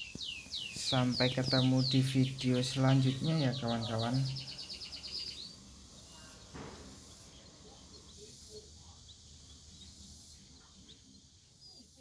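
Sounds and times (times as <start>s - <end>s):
faint bird chirps: 0.0s - 12.0s
faint high-pitched hiss: 0.0s - 12.0s.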